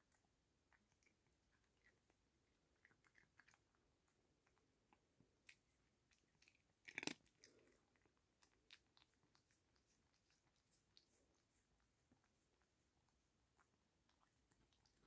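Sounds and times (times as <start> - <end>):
cat chewing a treat: 0.0 - 15.0.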